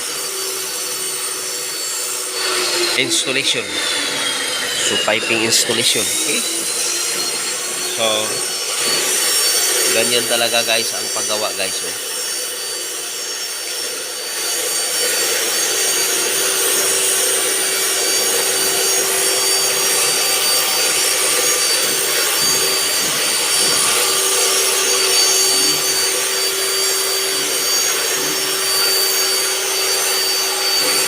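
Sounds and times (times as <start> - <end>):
power tool grinding: 0.0 - 31.0.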